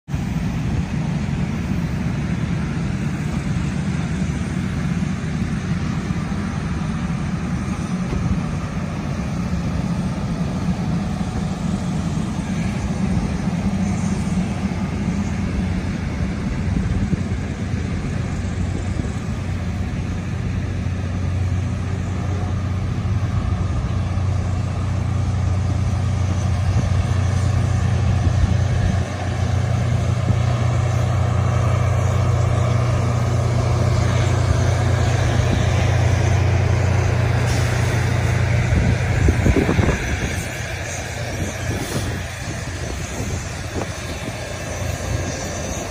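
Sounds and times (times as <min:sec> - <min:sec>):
low locomotive engine drone: 0:00.0 - 0:45.9
steel wheels rumbling on rails: 0:00.1 - 0:45.9.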